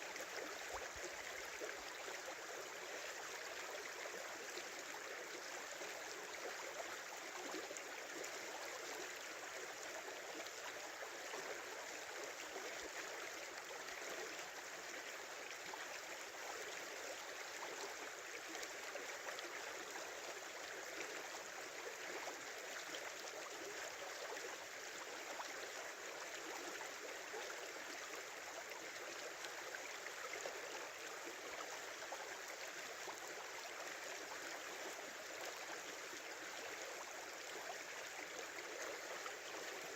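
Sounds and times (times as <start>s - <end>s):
small river babbling: 0.0s - 39.9s.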